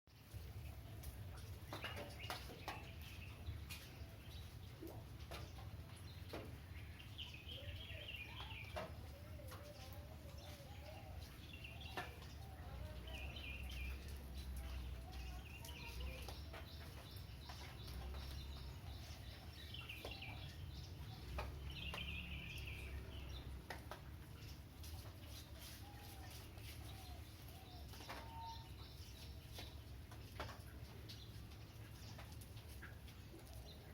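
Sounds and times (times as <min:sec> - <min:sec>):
birds chirping: 0:00.5 - 0:33.9.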